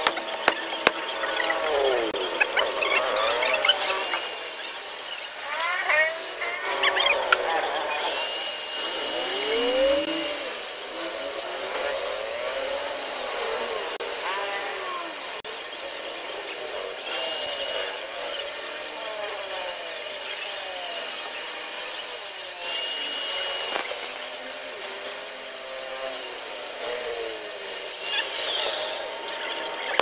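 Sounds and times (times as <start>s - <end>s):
angle grinder cutting metal: 0.0s - 30.0s.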